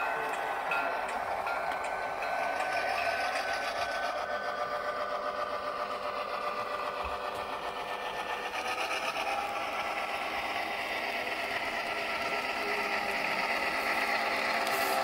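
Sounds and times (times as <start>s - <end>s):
diesel engine sound from small speaker: 0.0s - 15.0s
model train cars clattering on track: 0.0s - 15.0s.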